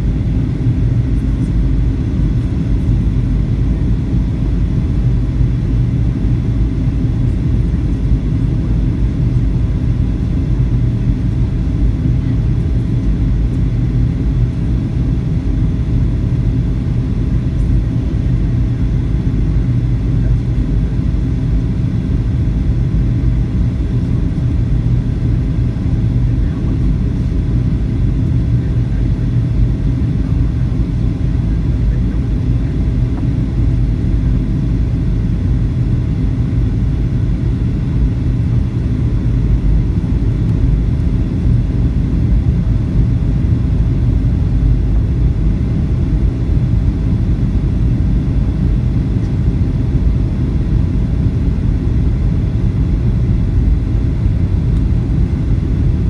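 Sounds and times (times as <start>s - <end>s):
airplane cabin engine rumble: 0.0s - 56.0s
faint even hum: 0.0s - 56.0s.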